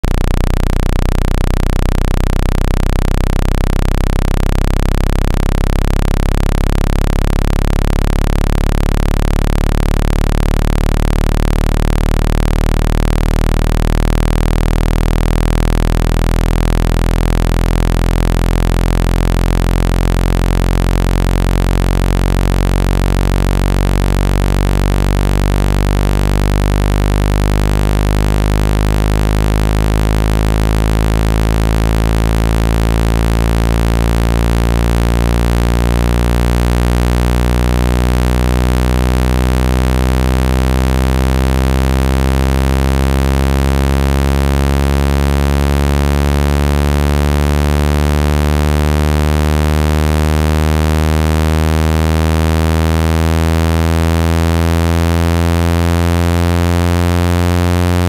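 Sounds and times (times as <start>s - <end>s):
low-pitched synthesized hum: 0.0s - 58.0s.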